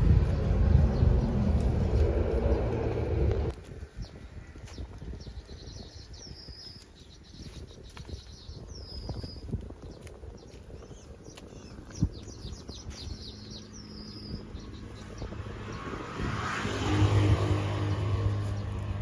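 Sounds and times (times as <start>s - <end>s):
small birds chirping: 0.0s - 16.4s, 17.1s - 19.0s.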